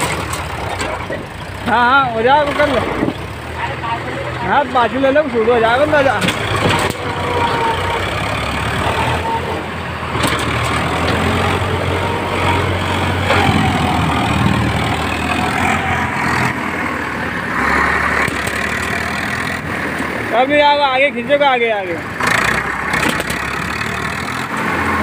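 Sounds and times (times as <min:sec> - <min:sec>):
tyres spinning in loose dirt: 0:00.0 - 0:03.5, 0:04.5 - 0:16.1, 0:18.0 - 0:25.0
tractor engine under heavy load: 0:00.0 - 0:25.0.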